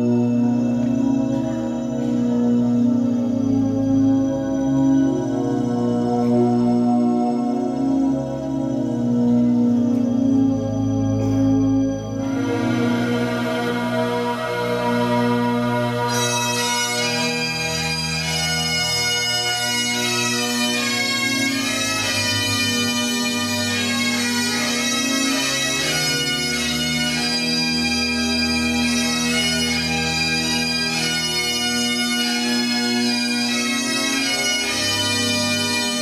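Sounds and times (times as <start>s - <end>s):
bagpipes playing a tune: 0.0s - 36.0s.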